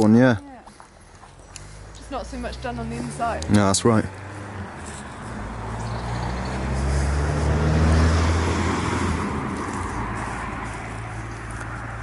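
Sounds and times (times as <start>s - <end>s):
vehicle passing: 0.1s - 12.0s.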